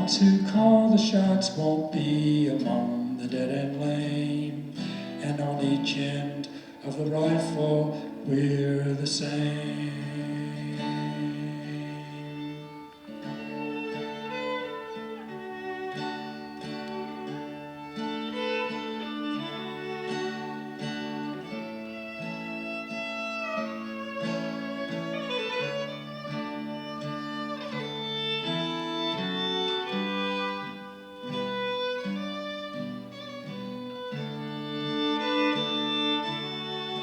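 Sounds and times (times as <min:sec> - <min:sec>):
acoustic guitar chords: 0:00.0 - 0:37.0
fiddle melody with slides: 0:00.0 - 0:37.0.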